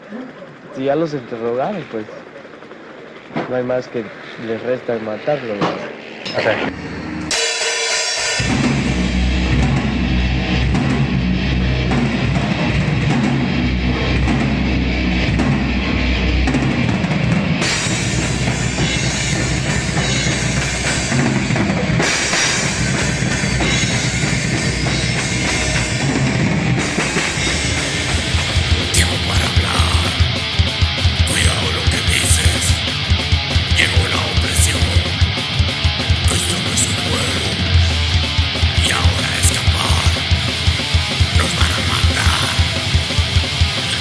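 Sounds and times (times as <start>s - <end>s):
heavy metal drumming: 7.3s - 44.0s.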